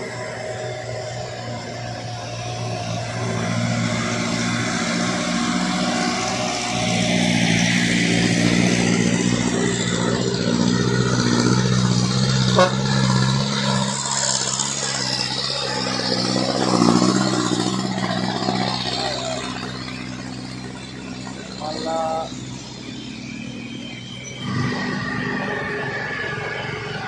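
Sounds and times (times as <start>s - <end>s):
diesel truck engine labouring uphill: 0.0s - 27.0s.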